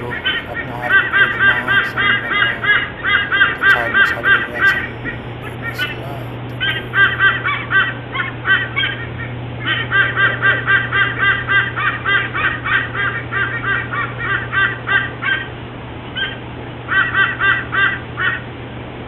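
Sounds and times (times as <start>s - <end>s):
eagles honking calls: 0.0s - 15.5s
steady low hum: 0.0s - 16.9s.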